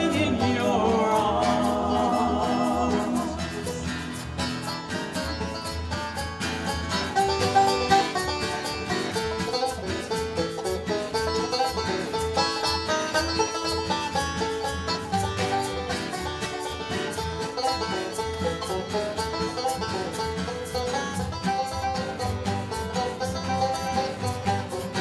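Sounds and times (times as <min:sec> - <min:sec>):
folk-blues acoustic band: 0:00.0 - 0:25.0
quick plucked-string picking: 0:00.0 - 0:25.0.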